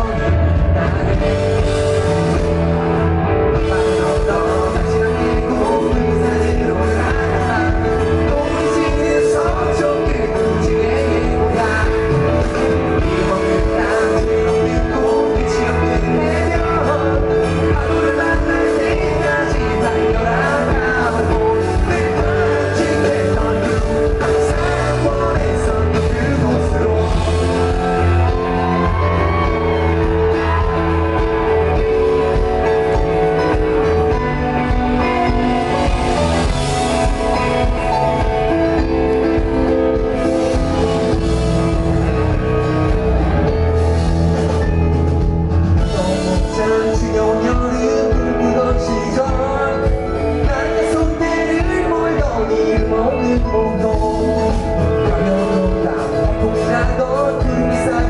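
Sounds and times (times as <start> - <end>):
person singing: 0.0 - 58.0
rock band playing live: 0.0 - 58.0.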